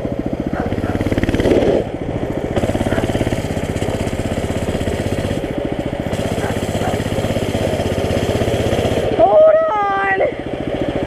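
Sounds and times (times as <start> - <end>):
mini bike engine idling: 0.0 - 11.0.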